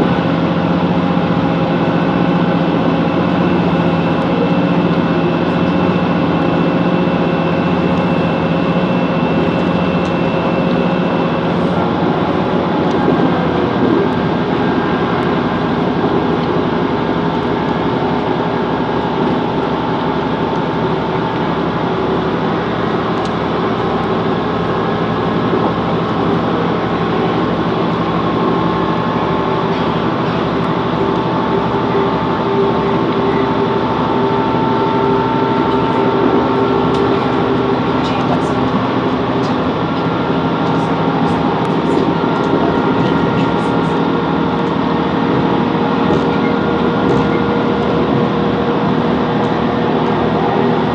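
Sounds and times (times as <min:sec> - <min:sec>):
diesel train drone: 0:00.0 - 0:50.9.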